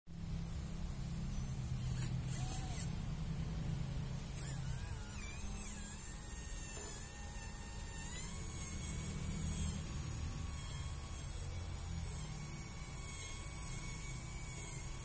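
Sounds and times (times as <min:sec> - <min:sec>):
steady low hum: 0:00.1 - 0:15.0
servo buzzing and whining: 0:00.3 - 0:15.0.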